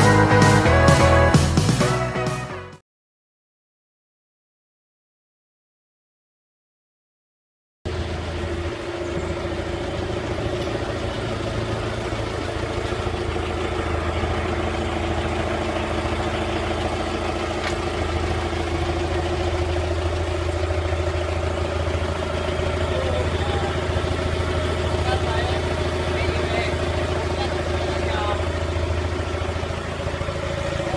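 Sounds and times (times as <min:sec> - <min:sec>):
vehicle engine idling: 0:00.0 - 0:02.5, 0:07.9 - 0:30.9.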